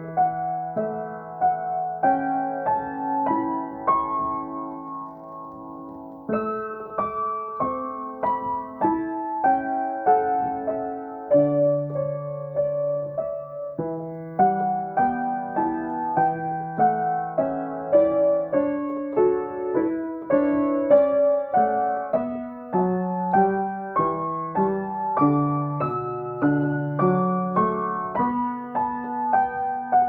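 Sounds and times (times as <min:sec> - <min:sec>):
gentle acoustic piano: 0:00.0 - 0:30.0.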